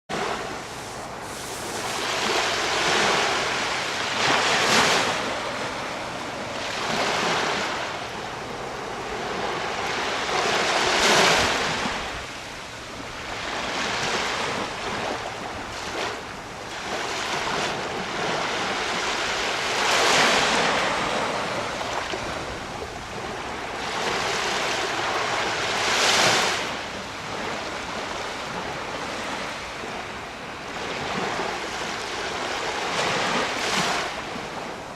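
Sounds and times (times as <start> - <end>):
sea waves breaking: 0.1 - 34.9
wind on microphone: 0.1 - 34.9.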